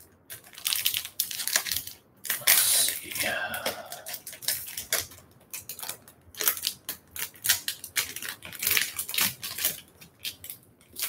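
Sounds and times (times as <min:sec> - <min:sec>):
foil wrapper crinkling and tearing: 0:00.3 - 0:11.0.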